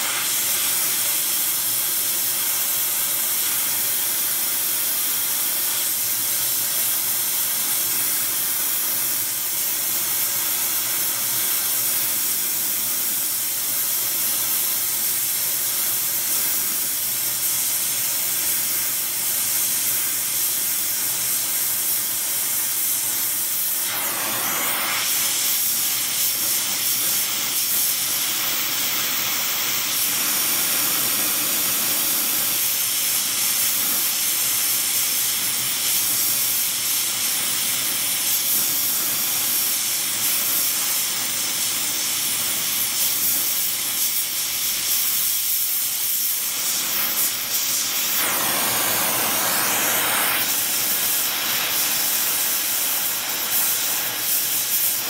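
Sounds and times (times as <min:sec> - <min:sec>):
welding torch flame hissing: 0:00.0 - 0:55.0.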